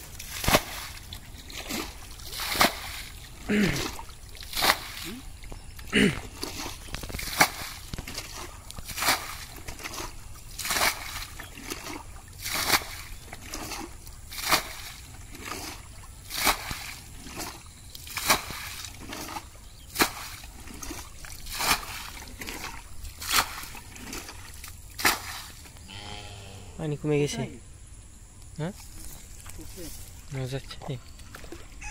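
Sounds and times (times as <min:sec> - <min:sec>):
bucket sloshing muddy water: 0:00.0 - 0:25.8, 0:28.8 - 0:31.9.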